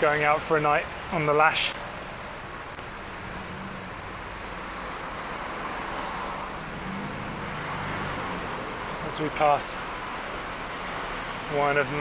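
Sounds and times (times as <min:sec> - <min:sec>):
city street traffic: 0:00.0 - 0:12.0
low engine hum: 0:01.7 - 0:12.0.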